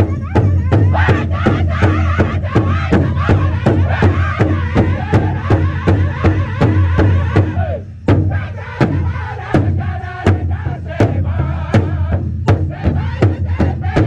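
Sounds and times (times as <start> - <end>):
men singing in unison: 0.0 - 14.0.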